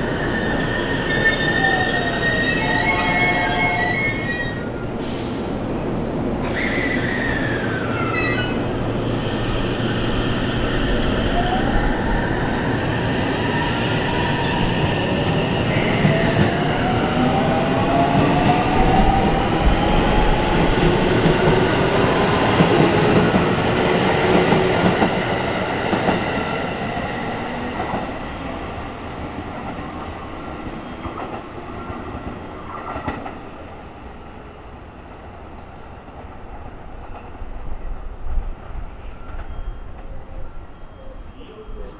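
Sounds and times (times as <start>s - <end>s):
train wheels rumbling and clattering: 0.0s - 40.7s.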